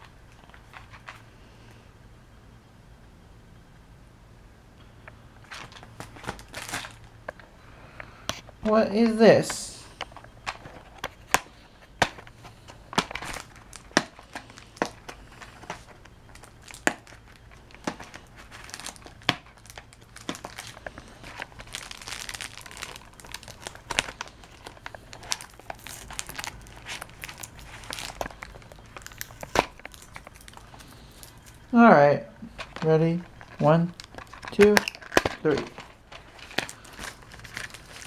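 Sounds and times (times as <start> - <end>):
plastic mailer crinkling: 0.0 - 1.3, 5.4 - 7.6, 8.4 - 38.0.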